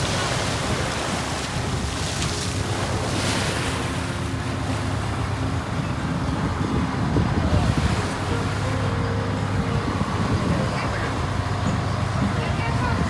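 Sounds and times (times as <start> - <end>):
rush of sea water: 0.0 - 13.0
wind buffeting microphone: 0.0 - 13.0.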